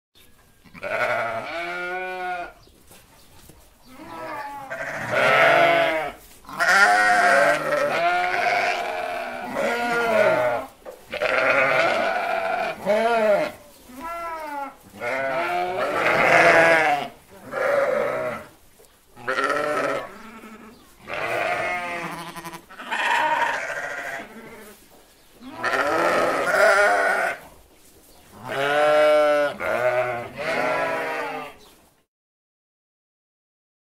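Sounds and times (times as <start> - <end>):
sheep bleating: 0.6 - 2.6, 3.9 - 18.5, 19.2 - 24.8, 25.4 - 27.4, 28.4 - 31.6.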